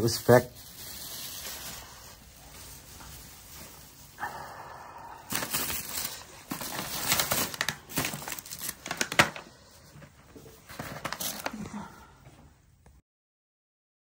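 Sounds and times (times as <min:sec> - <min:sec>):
crinkling and rustling: 0:00.0 - 0:04.2, 0:05.2 - 0:12.6.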